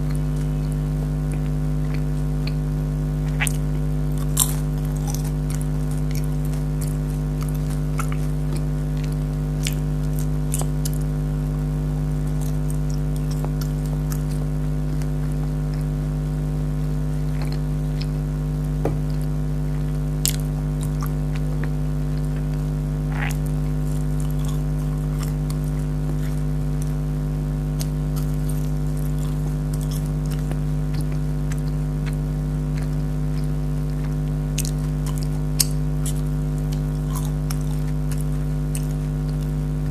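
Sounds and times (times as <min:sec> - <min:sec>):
loud electrical hum: 0:00.0 - 0:39.9
person chewing crunchy food: 0:00.0 - 0:39.9.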